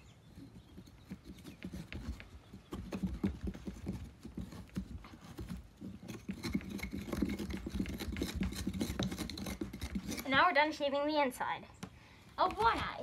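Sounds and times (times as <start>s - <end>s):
carving tool scraping pumpkin flesh: 0.0s - 10.8s.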